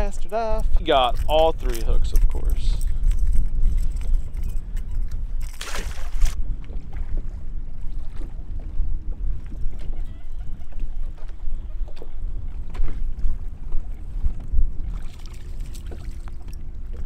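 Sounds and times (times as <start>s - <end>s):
wind buffeting microphone: 0.0s - 17.0s
small waves lapping at hull: 0.6s - 17.0s.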